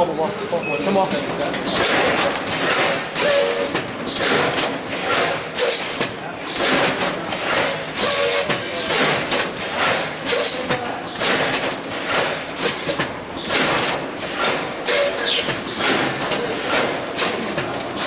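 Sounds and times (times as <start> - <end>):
packaging machine clattering: 1.5 - 18.0.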